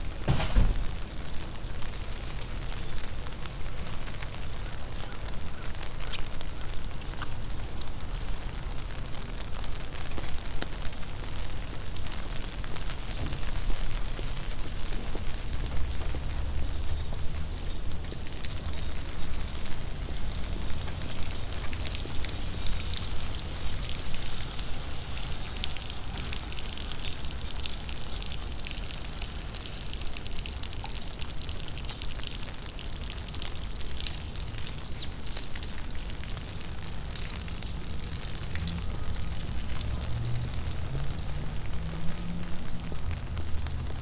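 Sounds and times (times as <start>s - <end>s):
rain pattering: 0.0s - 44.0s.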